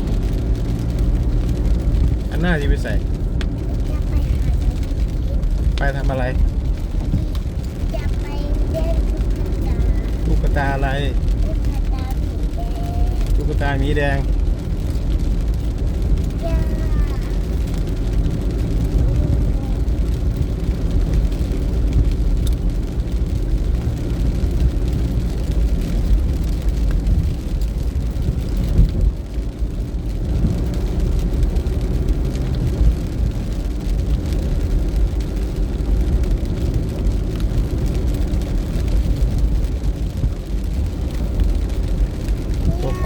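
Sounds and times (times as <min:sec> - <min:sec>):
low rumbling noise: 0:00.0 - 0:43.0.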